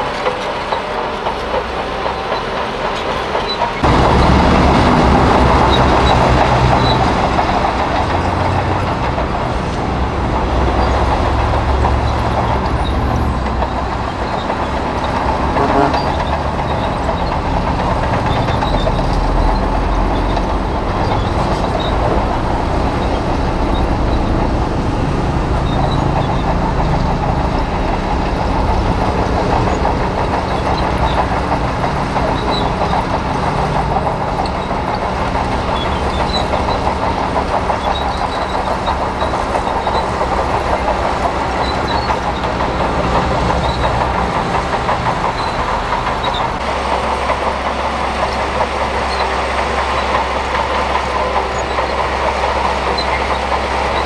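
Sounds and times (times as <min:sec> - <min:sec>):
bulldozer diesel engine running: 0:00.0 - 0:54.0
steel tracks clattering: 0:00.0 - 0:54.0.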